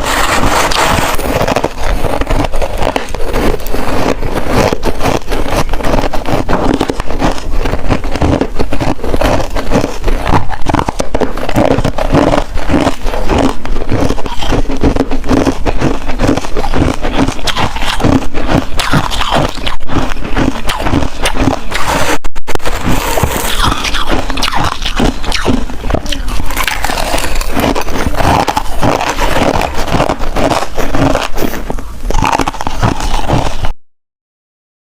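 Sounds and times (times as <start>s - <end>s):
ice being chewed: 0.0s - 33.8s.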